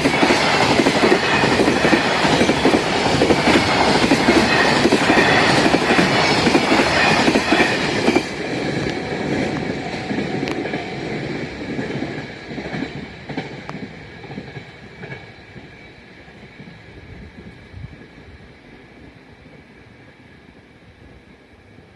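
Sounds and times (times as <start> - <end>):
train wheels clickety-clack: 0.0 - 20.2.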